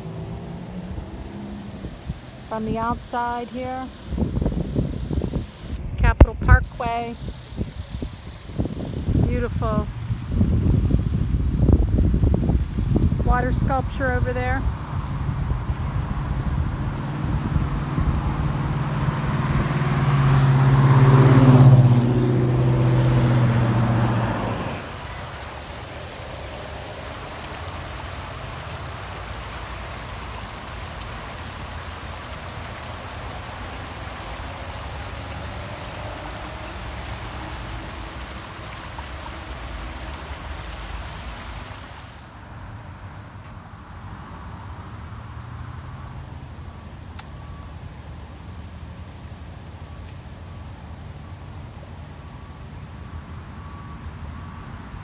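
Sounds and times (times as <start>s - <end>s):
vehicle passing on road: 0.0s - 55.0s.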